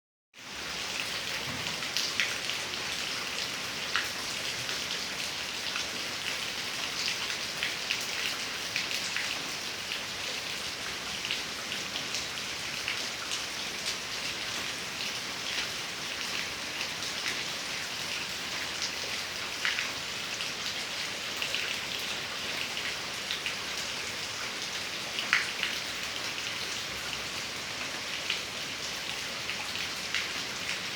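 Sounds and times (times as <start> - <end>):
raindrops pattering and splashing: 0.4 - 30.9.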